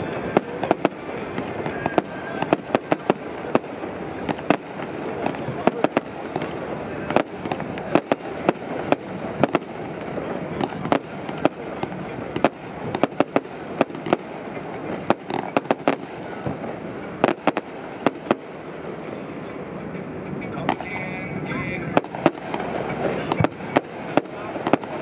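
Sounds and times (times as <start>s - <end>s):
fireworks bangs and cracks: 0.0s - 25.0s
steady background noise: 0.0s - 25.0s.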